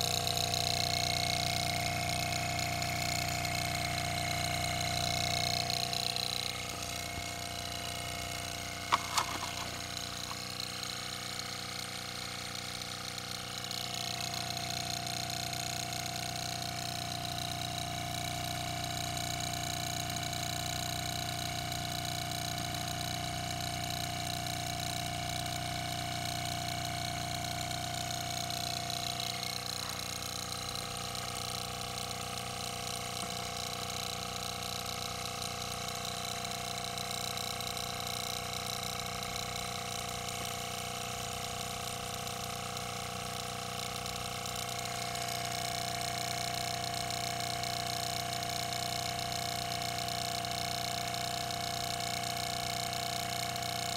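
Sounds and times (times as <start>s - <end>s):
linear motor humming: 0.0s - 53.9s.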